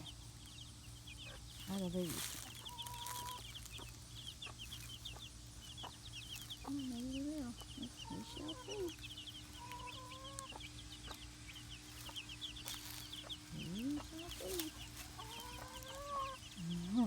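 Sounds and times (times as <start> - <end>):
baby chicks peeping: 0.0 - 17.0
hens clucking: 0.0 - 17.0.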